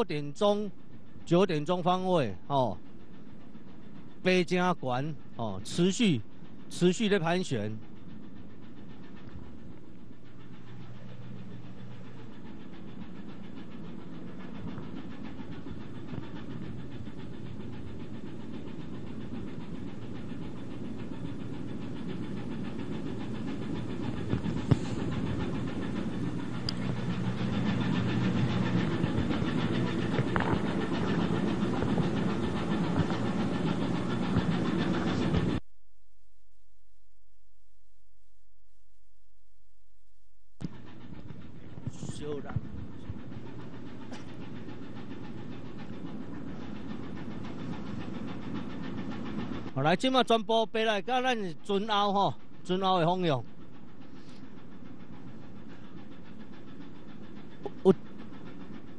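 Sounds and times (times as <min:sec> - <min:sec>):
ship engine running: 0:00.0 - 0:35.6, 0:40.6 - 0:58.9.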